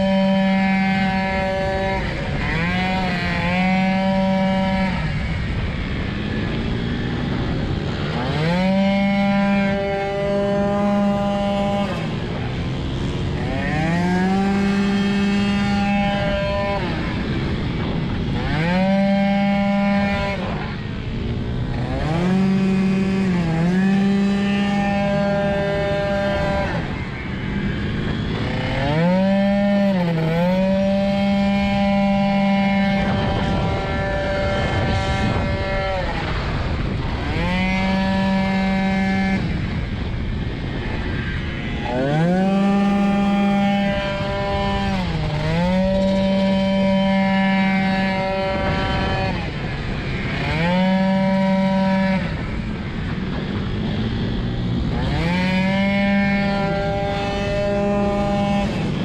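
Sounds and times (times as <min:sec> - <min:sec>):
scooter engine at full throttle: 0:00.0 - 0:59.0
wind rushing over microphone: 0:00.0 - 0:59.0.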